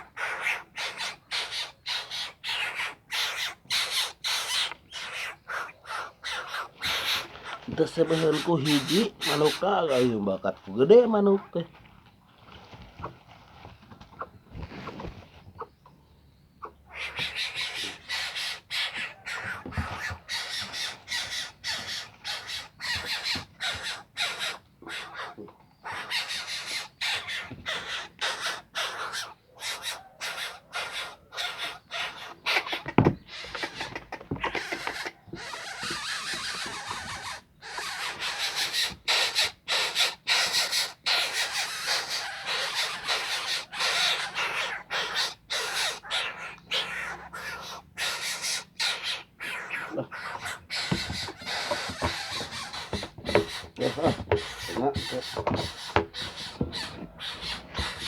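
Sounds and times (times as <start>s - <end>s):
bird giving harsh rasping calls: 0.0s - 10.3s, 16.6s - 58.0s.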